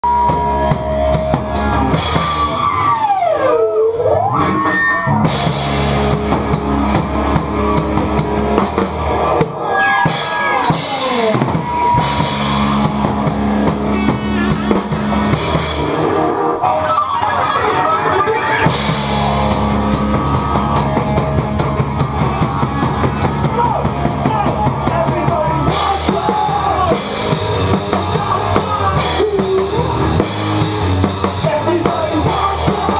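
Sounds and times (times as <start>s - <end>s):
drum kit: 0.0s - 3.2s, 5.0s - 16.6s, 18.2s - 32.9s
rock band playing live: 0.0s - 32.9s.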